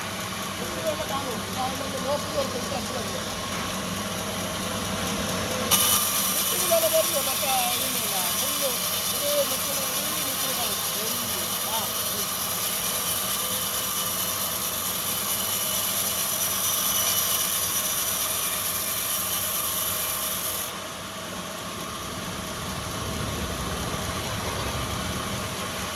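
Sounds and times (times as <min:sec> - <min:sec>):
low steady machine sound: 0:00.0 - 0:25.9
woodworking machinery hissing: 0:00.0 - 0:25.9.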